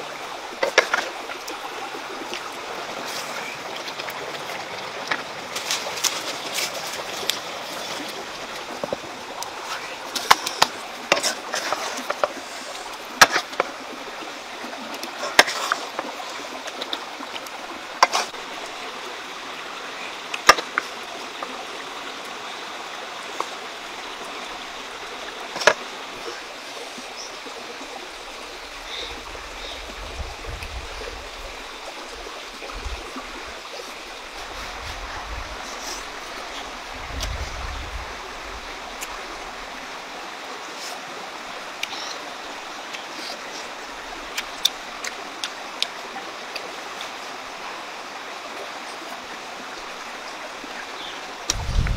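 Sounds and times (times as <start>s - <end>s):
stream flowing: 0.0s - 51.9s.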